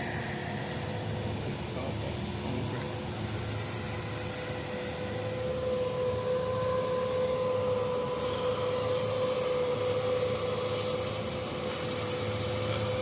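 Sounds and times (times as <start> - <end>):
steady machine drone: 0.0 - 13.0.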